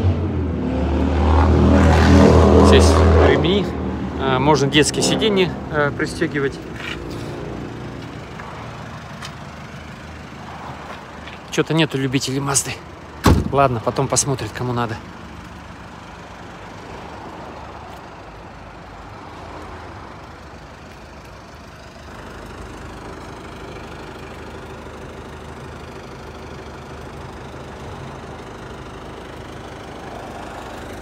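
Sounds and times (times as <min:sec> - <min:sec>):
diesel engine idling: 0:01.7 - 0:31.0.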